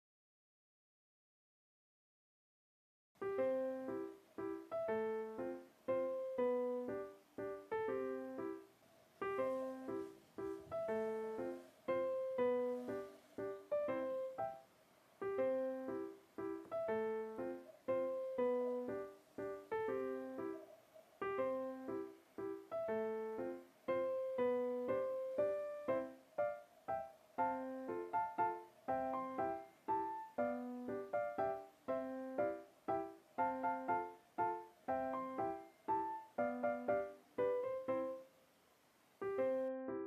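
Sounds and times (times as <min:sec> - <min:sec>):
keyboard music: 0:03.2 - 0:38.3, 0:39.2 - 0:40.0.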